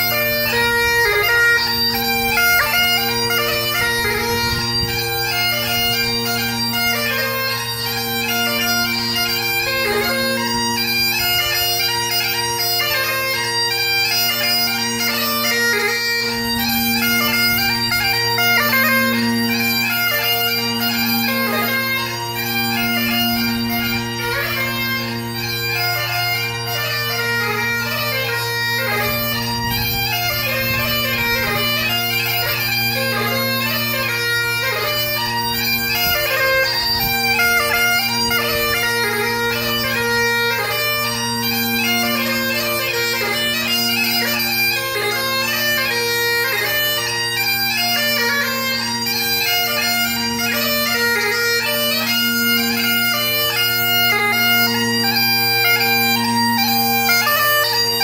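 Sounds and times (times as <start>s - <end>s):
bagpipes playing: 0.0s - 58.0s.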